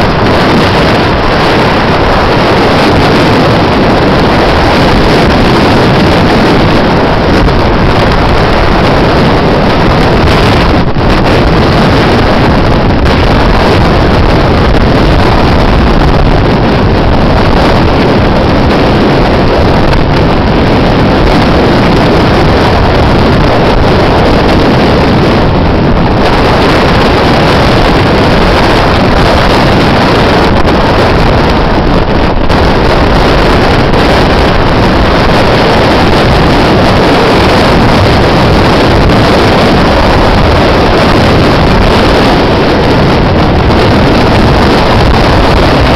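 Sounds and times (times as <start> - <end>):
storm wind on microphone: 0.0 - 45.9.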